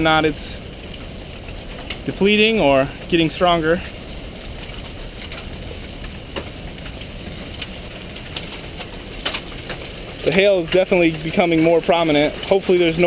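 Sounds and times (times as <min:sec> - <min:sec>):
hailstones pinging: 0:00.0 - 0:13.0
rain: 0:00.0 - 0:13.0
wind: 0:00.0 - 0:13.0.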